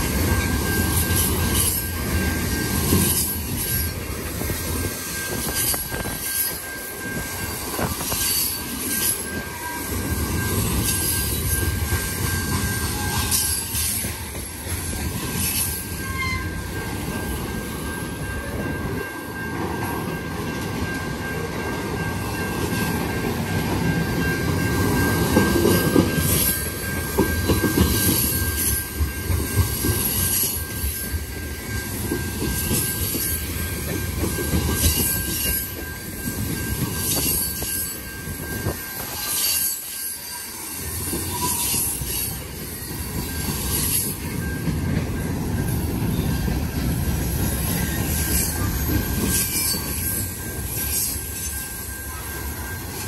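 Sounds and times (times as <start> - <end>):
freight train rumbling past: 0.0 - 53.0
high-pitched wheel ring: 0.0 - 53.0.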